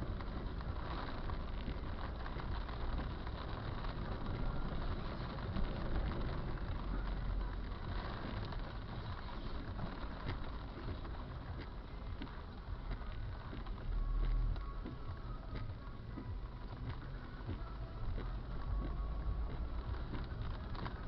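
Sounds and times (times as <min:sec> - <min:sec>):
low rain rumble: 0:00.0 - 0:21.0.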